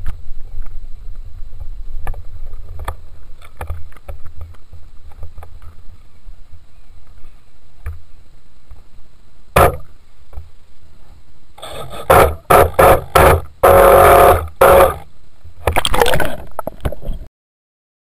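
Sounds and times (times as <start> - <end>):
steady low rumble: 0.0 - 17.2.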